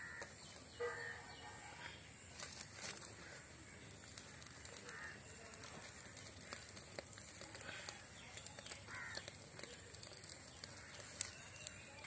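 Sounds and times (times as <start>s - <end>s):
small wood fire crackling: 0.0s - 12.0s.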